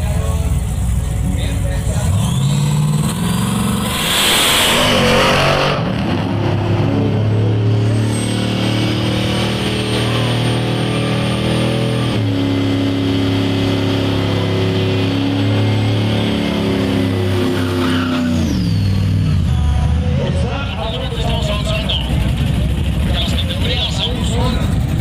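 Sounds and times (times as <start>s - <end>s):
racing car engine at high revs: 1.8s - 25.0s.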